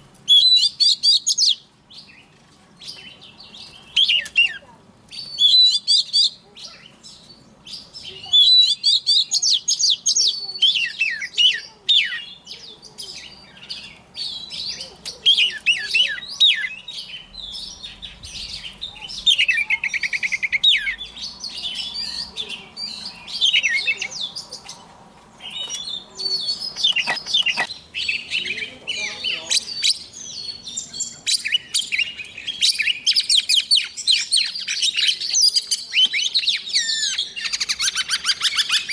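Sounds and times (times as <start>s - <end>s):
bird singing whistled phrases: 0.3s - 2.2s, 2.8s - 24.7s, 25.4s - 38.9s.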